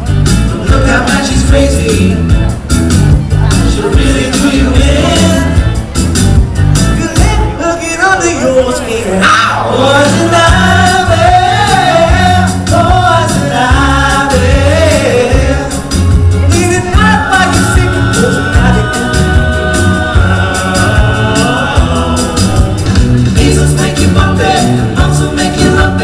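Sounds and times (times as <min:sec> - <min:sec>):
rhythmic backing with bass pulse: 0:00.0 - 0:07.6, 0:09.6 - 0:26.0
male vocal group singing harmony: 0:00.4 - 0:02.3, 0:03.4 - 0:05.7, 0:07.0 - 0:26.0.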